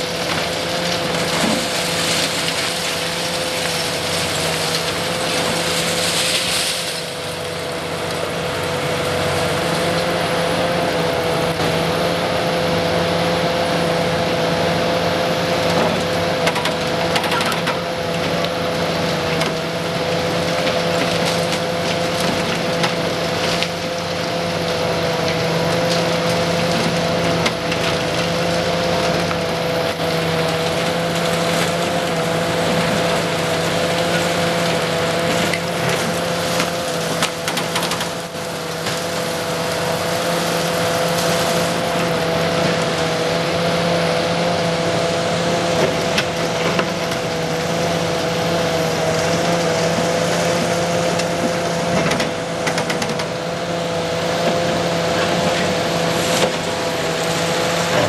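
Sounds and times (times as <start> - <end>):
concrete crunching and crackling: 0.0 - 10.8, 15.7 - 58.0.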